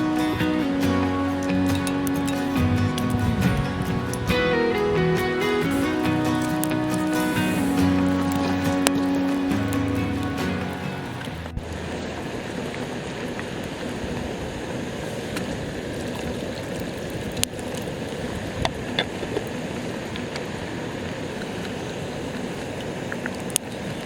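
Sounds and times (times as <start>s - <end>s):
rushing water-like noise: 0.0s - 24.0s.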